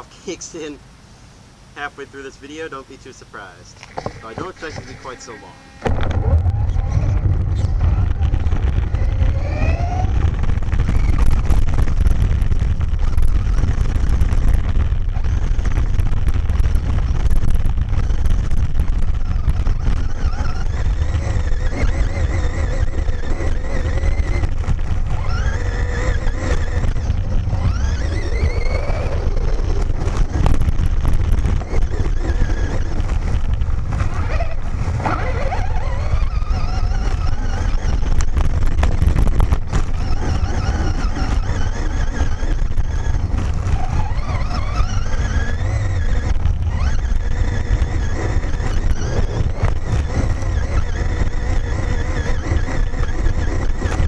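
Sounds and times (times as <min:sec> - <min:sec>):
tyres rumbling over gravel: 0:03.4 - 0:54.0
electric motor whine: 0:03.8 - 0:54.0.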